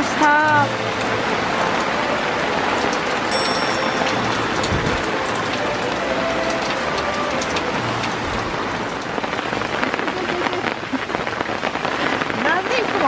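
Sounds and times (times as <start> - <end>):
rain on a canvas tent: 0.0 - 13.0.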